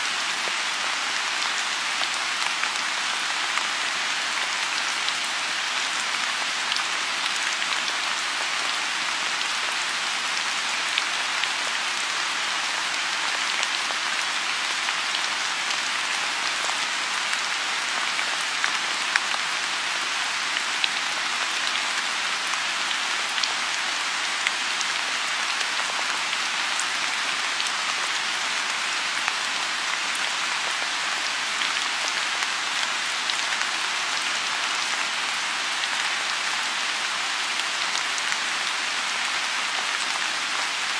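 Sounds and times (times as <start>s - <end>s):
rain pattering on pond: 0.0s - 40.9s.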